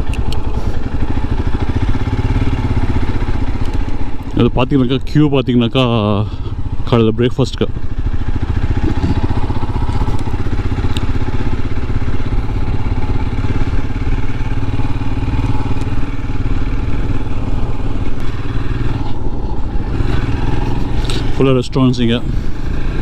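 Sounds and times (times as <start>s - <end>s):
motorcycle engine low beat: 0.0s - 23.0s.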